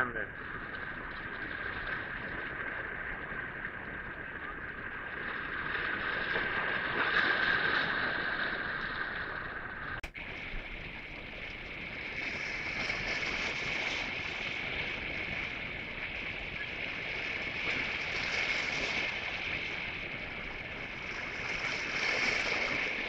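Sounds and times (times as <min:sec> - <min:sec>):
waves washing over rocks: 0:00.0 - 0:23.0.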